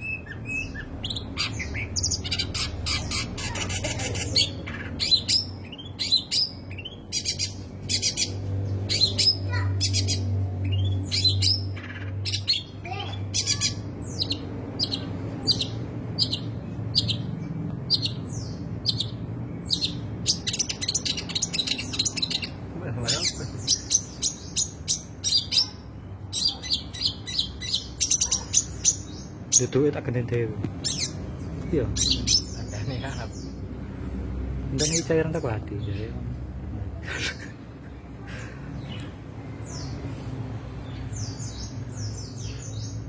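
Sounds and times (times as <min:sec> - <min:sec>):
bird singing harsh chattering song: 0:00.0 - 0:43.0.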